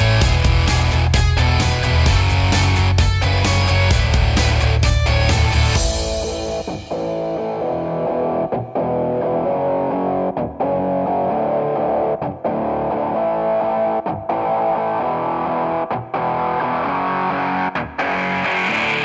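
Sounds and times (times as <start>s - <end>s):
rock music with distorted guitar: 0.0s - 19.0s.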